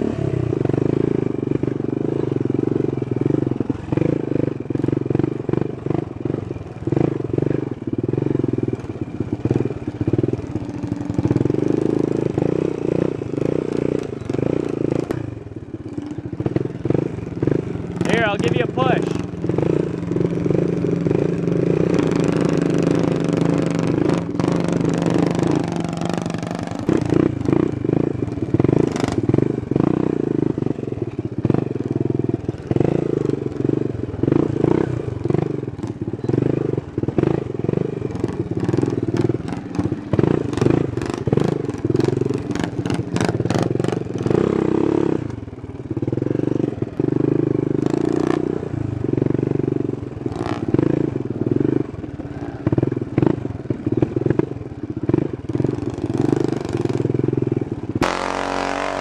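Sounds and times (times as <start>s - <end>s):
quad engine running loudly: 0.0s - 59.0s.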